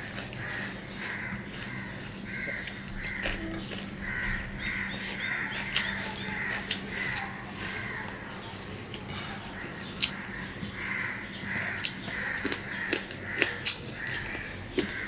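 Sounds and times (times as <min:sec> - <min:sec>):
wet clicks of food mixed by hand: 0:00.0 - 0:08.1, 0:08.9 - 0:10.8, 0:11.7 - 0:15.0
crows cawing: 0:00.4 - 0:08.4, 0:09.5 - 0:15.0.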